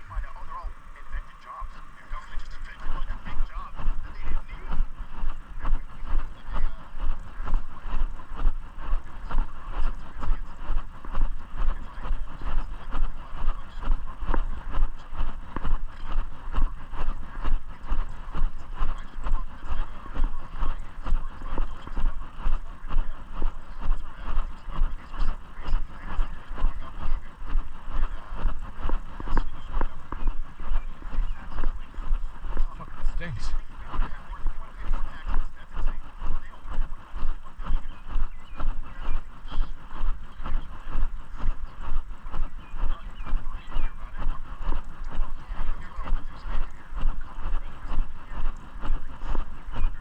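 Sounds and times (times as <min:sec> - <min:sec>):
microphone rustling hiss: 0:00.0 - 0:50.0
walking footsteps: 0:00.0 - 0:50.0.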